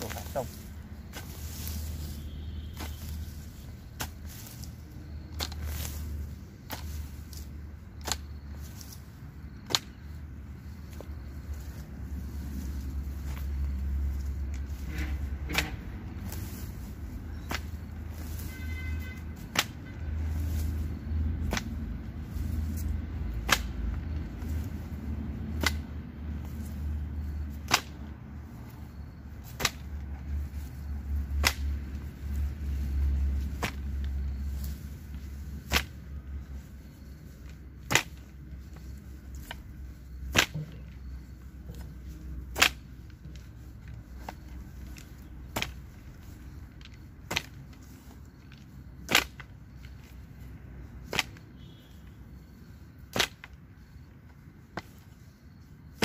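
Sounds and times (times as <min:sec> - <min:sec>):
hoe chopping into soil: 0:00.0 - 0:50.2, 0:51.0 - 0:52.1, 0:53.0 - 0:53.6.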